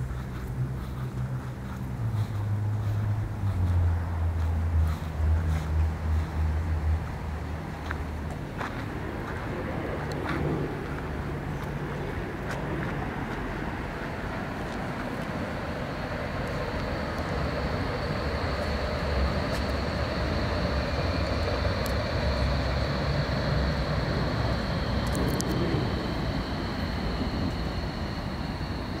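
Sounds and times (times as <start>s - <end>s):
lower whine: 0.0s - 29.0s
steady high whine: 0.0s - 29.0s
street traffic: 0.0s - 29.0s
vehicle rumbling past: 0.0s - 29.0s.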